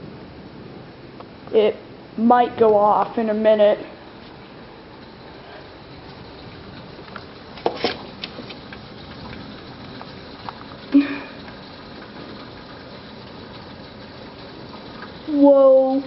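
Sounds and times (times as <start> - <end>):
heavy rain through window: 0.0 - 16.0.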